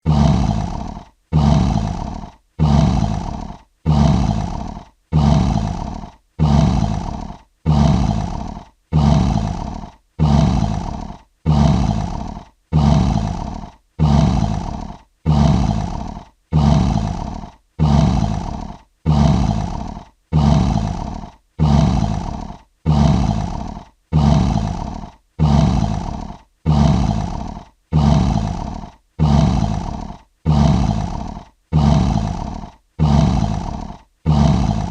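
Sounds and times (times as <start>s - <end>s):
lion roaring: 0.0s - 34.9s.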